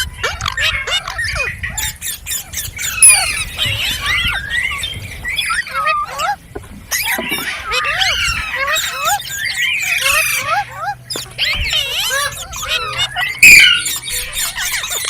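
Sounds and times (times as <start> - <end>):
parrots chirping: 0.3 - 15.0.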